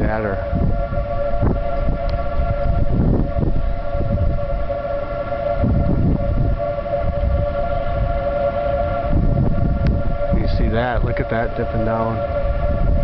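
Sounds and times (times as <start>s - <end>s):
civil defense siren steady tone: 0.0s - 13.0s
low rumbling noise: 0.0s - 13.0s.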